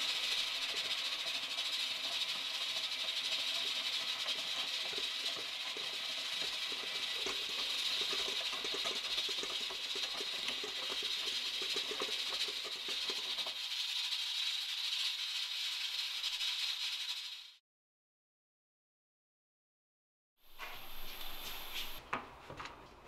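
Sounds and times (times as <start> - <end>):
stand mixer motor hiss: 0.0 - 17.6, 20.5 - 22.0.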